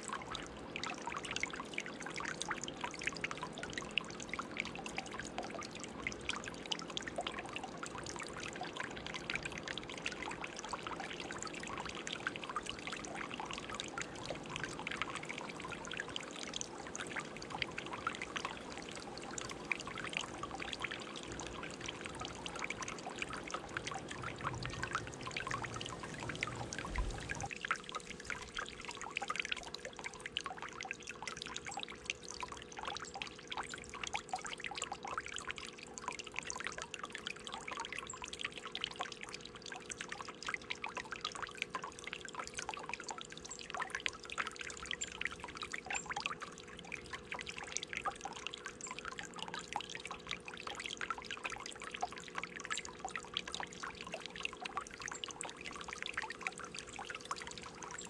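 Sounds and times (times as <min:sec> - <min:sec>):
fountain water trickling and splashing: 0:00.0 - 0:58.0.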